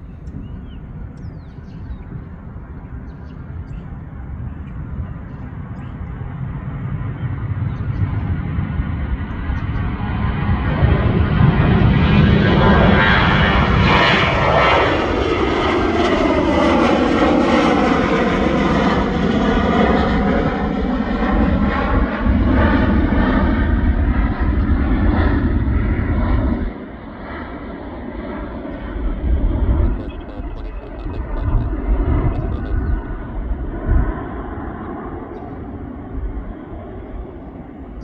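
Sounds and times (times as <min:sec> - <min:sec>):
jet engines roaring past: 0:00.0 - 0:38.0.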